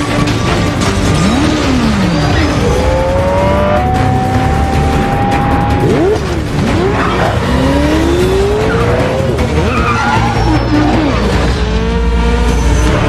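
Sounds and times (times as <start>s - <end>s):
engines revving: 0.0s - 13.0s
film score: 0.0s - 13.0s
tyres skidding: 0.0s - 13.0s.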